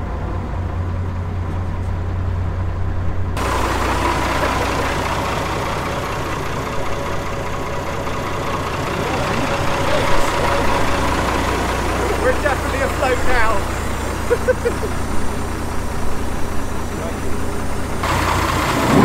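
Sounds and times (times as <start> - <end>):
engine running with whine: 0.0 - 19.0.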